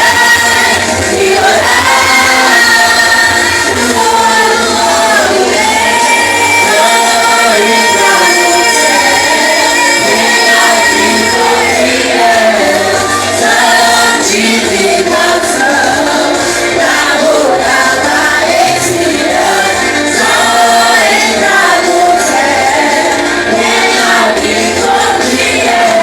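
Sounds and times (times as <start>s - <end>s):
group singing worship songs: 0.0s - 26.0s
live accompaniment: 0.0s - 26.0s.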